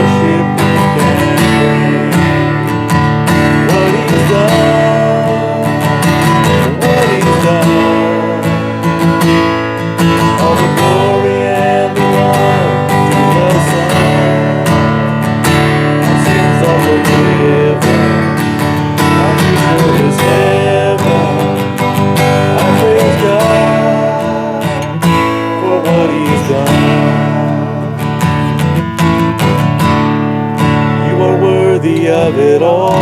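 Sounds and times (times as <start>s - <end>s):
strummed acoustic guitar: 0.0s - 33.0s
worship band music: 0.0s - 33.0s.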